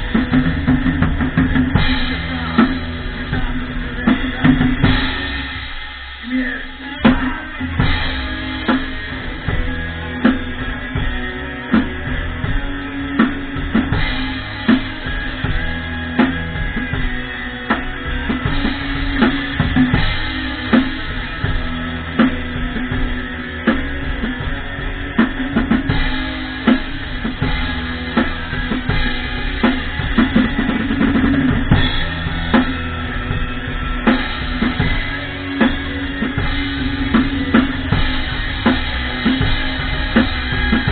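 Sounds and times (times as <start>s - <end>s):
backing song with guitar: 0.0s - 40.9s
drum kit rock beat: 0.0s - 40.9s.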